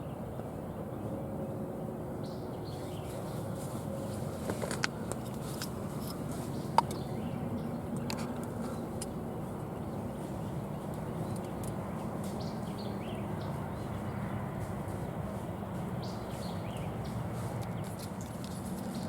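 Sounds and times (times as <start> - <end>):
small birds chirping: 2.2 - 19.0.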